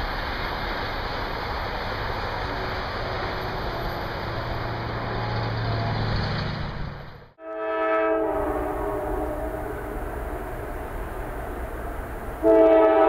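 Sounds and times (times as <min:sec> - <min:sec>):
passenger train rumble on rails: 0:00.0 - 0:13.0.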